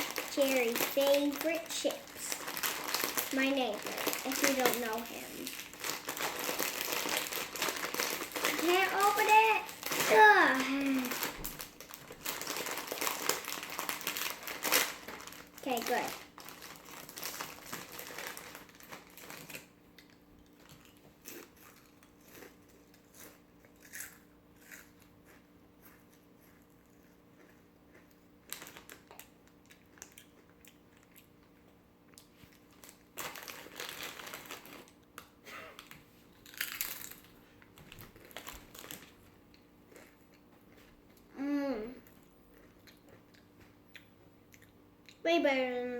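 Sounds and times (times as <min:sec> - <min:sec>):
chip bag crinkling: 0:00.0 - 0:25.1, 0:27.4 - 0:31.4, 0:32.2 - 0:40.2
child crunching chips: 0:00.0 - 0:43.5.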